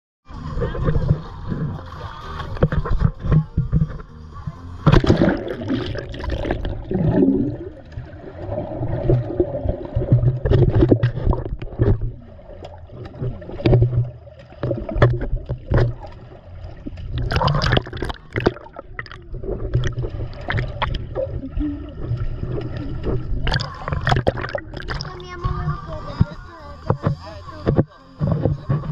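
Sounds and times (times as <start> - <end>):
pool water sloshing and splashing: 0.3 - 28.9
water bubbling: 0.3 - 28.9.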